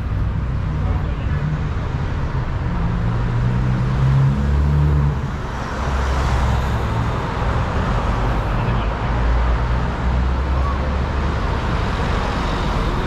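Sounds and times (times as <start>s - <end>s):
passing vehicle road noise: 0.0s - 13.0s.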